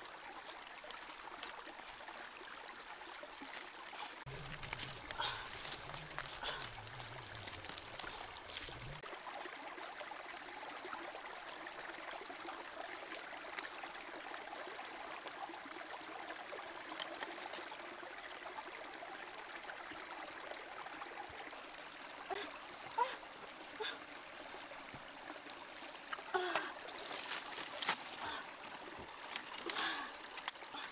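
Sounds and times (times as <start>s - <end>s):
stream babbling over rocks: 0.0s - 30.9s.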